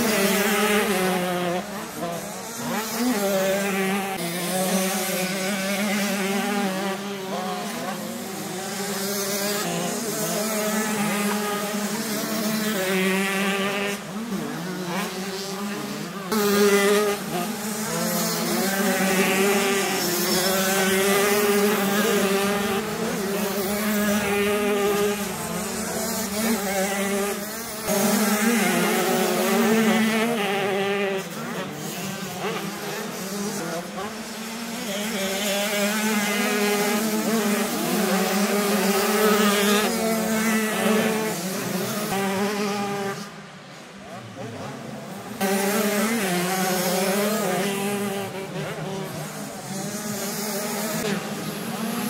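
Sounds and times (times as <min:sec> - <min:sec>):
motocross bikes revving: 0:00.0 - 0:52.0.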